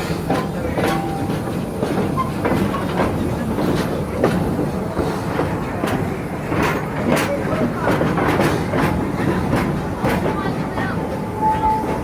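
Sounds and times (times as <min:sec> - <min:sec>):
wheel clacks over rail joints: 0:00.0 - 0:11.1
train rumbling on track: 0:00.0 - 0:12.0.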